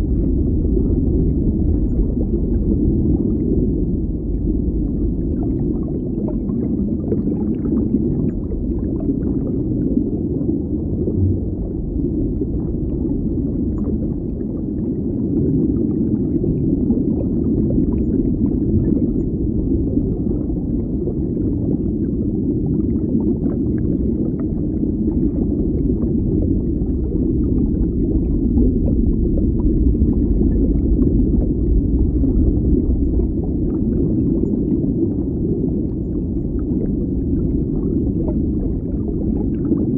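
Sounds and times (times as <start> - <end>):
underwater rumble of moving water: 0.0 - 39.9.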